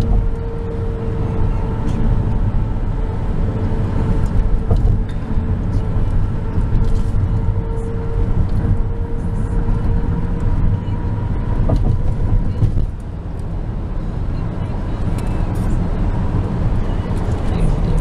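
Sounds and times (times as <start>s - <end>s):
engine and road noise rumble: 0.0s - 18.0s.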